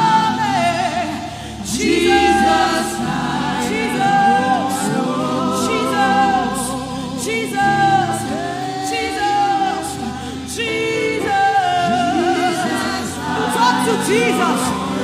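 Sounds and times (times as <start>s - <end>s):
gospel choir singing: 0.0s - 15.0s.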